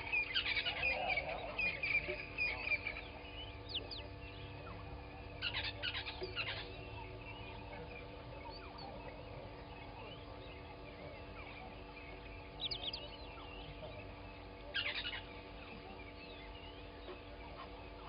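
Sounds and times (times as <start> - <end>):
wild birds chirping and calling: 0.0 - 18.0.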